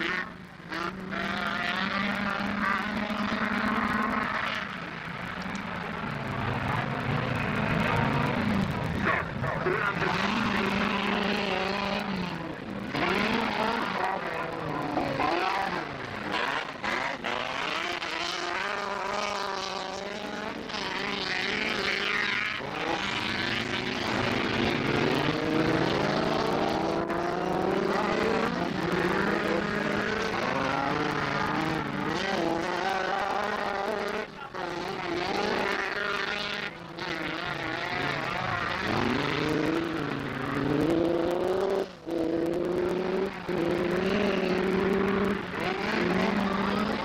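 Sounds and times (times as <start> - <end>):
race car engines revving: 0.0 - 47.0.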